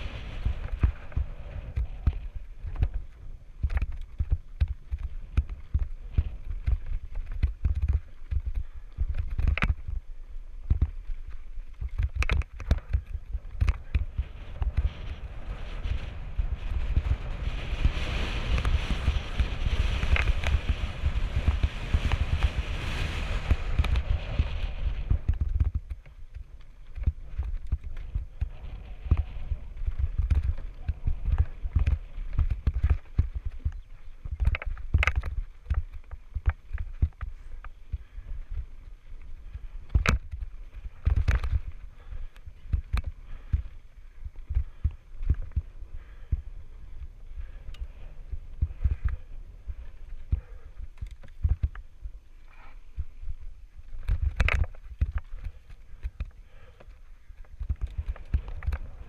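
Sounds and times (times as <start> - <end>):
bike rattling over dirt trail: 0.0 - 59.0
wind buffeting microphone: 0.0 - 59.0.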